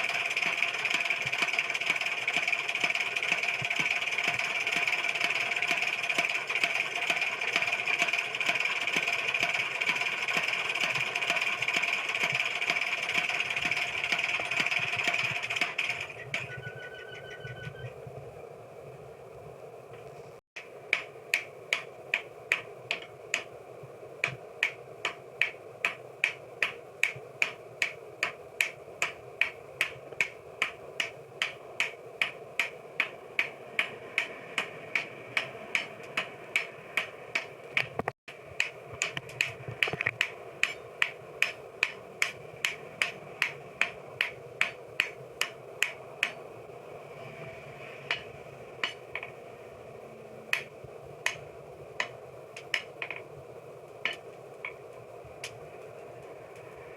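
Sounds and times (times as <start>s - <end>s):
steady hum: 0.0s - 56.9s.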